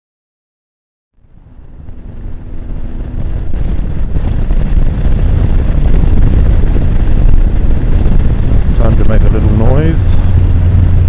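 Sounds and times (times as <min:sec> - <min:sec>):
motorcycle engine running: 0:01.2 - 0:11.0
wind rush on microphone: 0:01.2 - 0:11.0.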